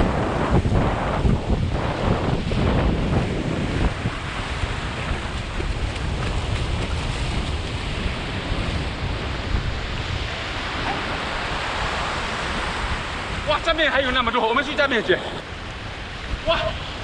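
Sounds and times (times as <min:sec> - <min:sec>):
sea surf rushing: 0:00.0 - 0:17.0
wind buffeting microphone: 0:00.0 - 0:17.0.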